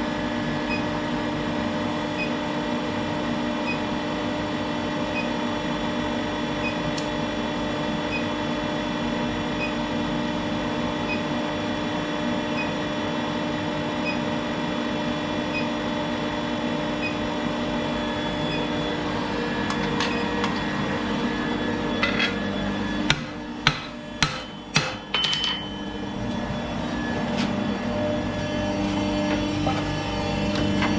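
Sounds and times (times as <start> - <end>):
workshop machine hum: 0.0 - 30.9.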